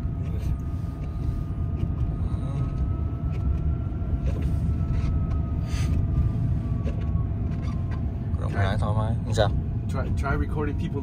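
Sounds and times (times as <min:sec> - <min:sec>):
road and tyre rumble in cabin: 0:00.0 - 0:11.0.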